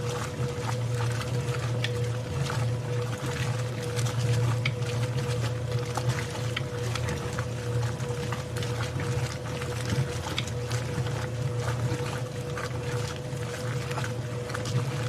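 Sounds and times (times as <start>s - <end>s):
washing machine motor hum: 0.0s - 15.0s
water sloshing in drum: 0.0s - 15.0s.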